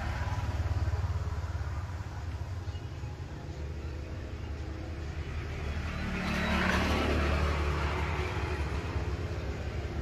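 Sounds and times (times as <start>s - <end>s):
vehicle passing engine rumble: 0.0s - 10.0s.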